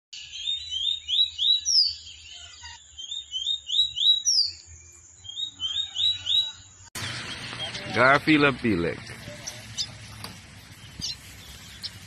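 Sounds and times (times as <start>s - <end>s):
songbird singing: 0.1s - 12.0s.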